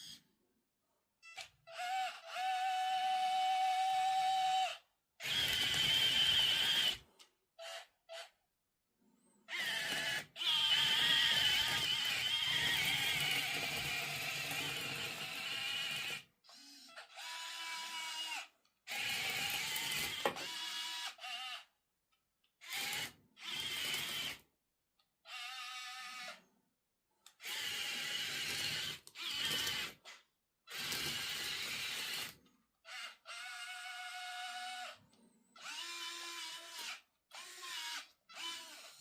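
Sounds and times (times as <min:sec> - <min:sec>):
small electric motors whining: 0:00.0 - 0:00.2, 0:01.4 - 0:07.0, 0:07.6 - 0:08.4, 0:09.5 - 0:21.7, 0:22.6 - 0:24.4, 0:27.3 - 0:39.0.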